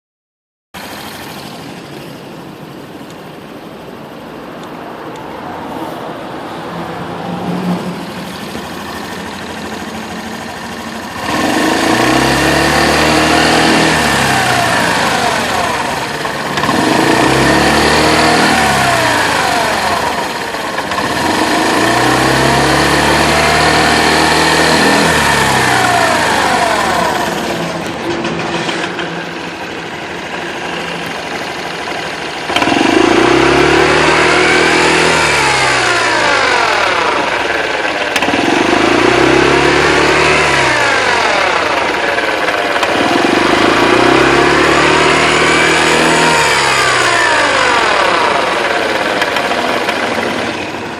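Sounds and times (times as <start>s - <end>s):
scooter engine idling and revving: 0.8s - 50.9s.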